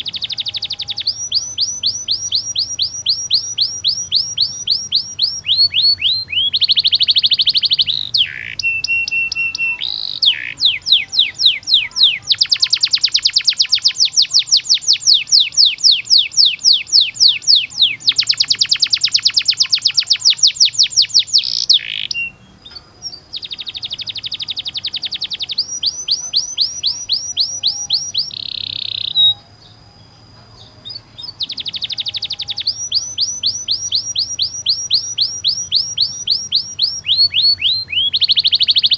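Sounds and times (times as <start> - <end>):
canary singing rolls: 0.0 - 38.9.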